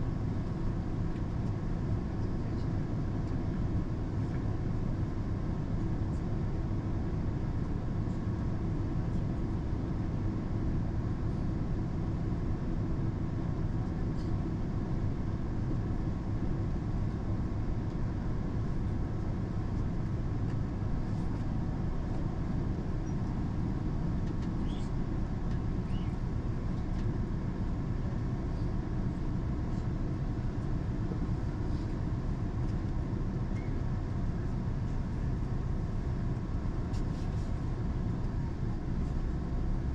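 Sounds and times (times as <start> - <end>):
train rumble inside passenger car: 0.0 - 39.9.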